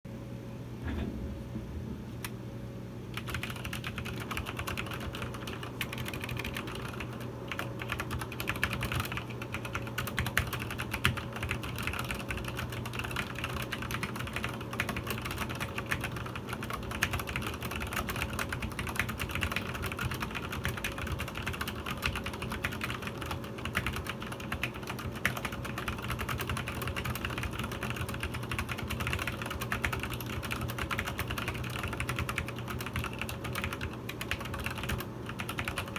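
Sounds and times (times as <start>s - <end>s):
steady low hum: 0.1s - 35.9s
fast mechanical keyboard typing: 3.2s - 35.9s.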